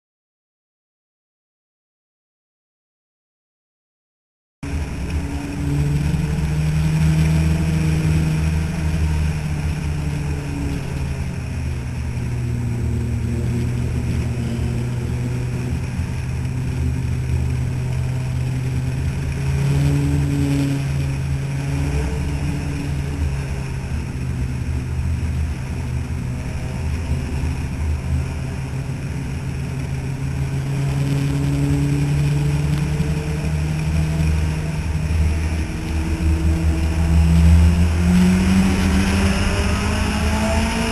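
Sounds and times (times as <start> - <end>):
race car engines droning: 4.6 - 40.9.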